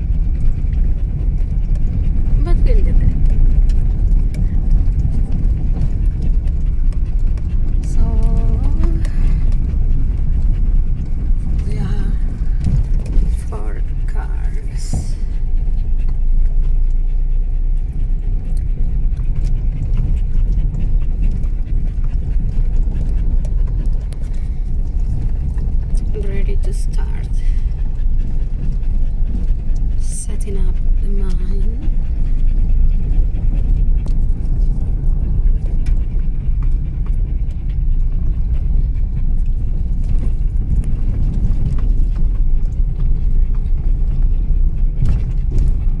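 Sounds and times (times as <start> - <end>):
vehicle engine and road rumble: 0.0 - 46.0.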